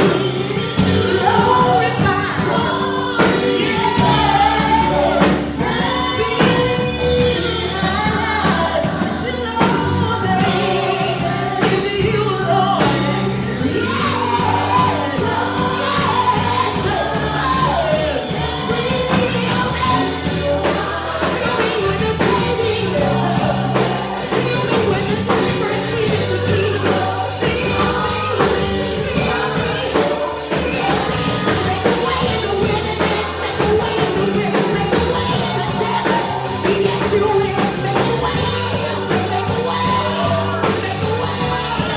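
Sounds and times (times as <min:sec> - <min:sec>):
band with beat and bass: 0:00.0 - 0:41.9
voices singing: 0:00.0 - 0:41.9.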